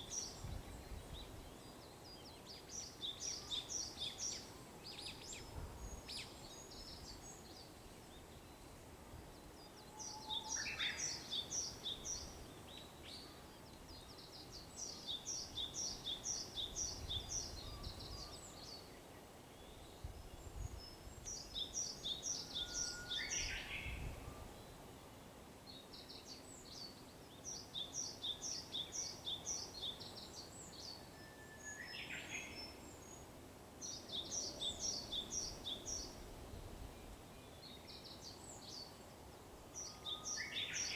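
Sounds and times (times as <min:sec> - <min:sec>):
bush warbler song: 0:00.0 - 0:40.9.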